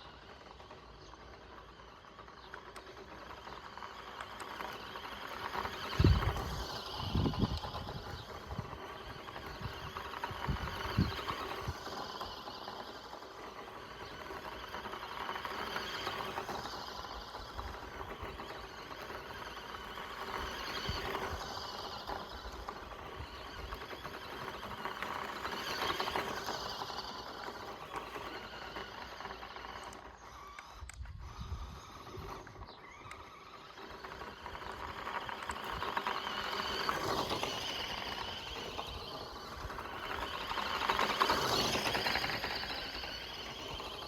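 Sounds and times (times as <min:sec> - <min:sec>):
electric motor whining: 0:00.0 - 0:44.0
tyres scrabbling over loose ground: 0:00.0 - 0:44.0.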